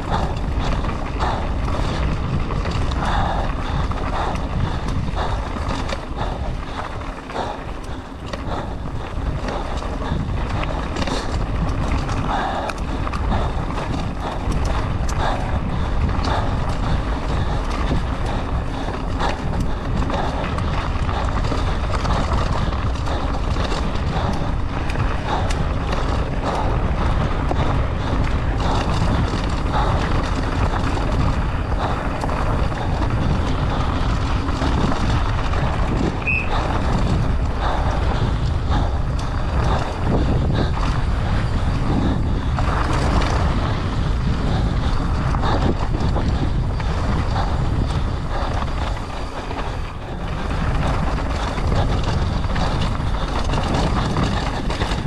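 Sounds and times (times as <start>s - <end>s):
bike clattering over bumps: 0.0s - 55.0s
wind buffeting microphone: 0.0s - 55.0s.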